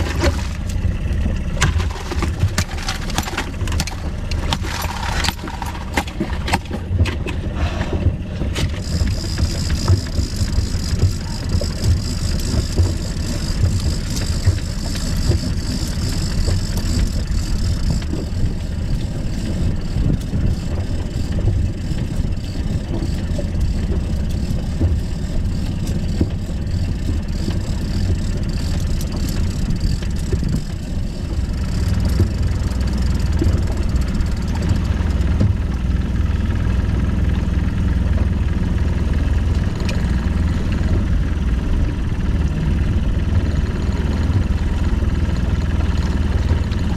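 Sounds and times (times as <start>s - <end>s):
boat engine running: 0.0s - 46.9s.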